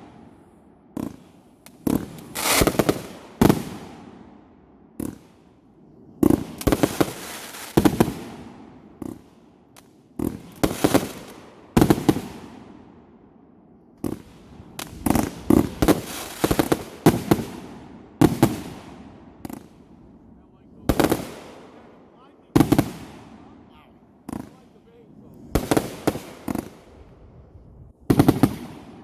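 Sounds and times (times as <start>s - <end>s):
fireworks bangs and crackling: 0.0s - 13.1s, 14.0s - 29.0s.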